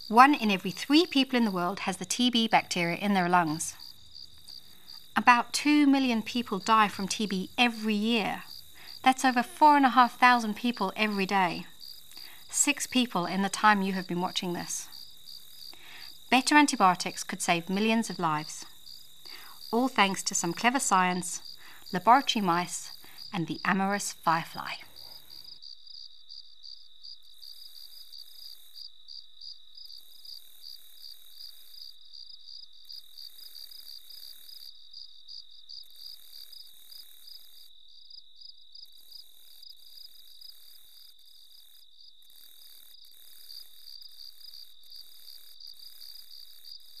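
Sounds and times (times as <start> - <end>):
crickets chirping: 0.0 - 47.0
high insect trill: 0.0 - 47.0.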